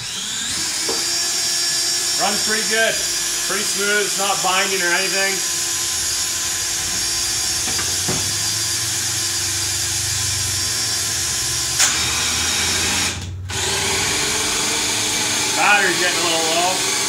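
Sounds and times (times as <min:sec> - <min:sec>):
cordless drill spinning: 0:00.0 - 0:17.0.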